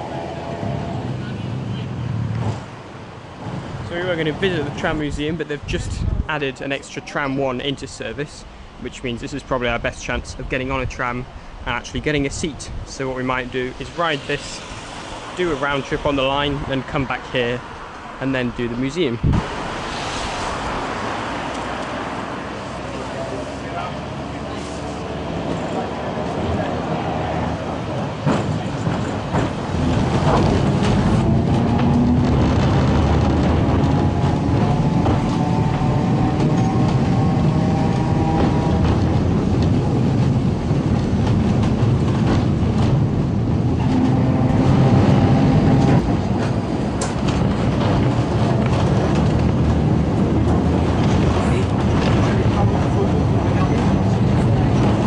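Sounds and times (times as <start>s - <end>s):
tram wheels rumbling on rails: 0.0s - 55.0s.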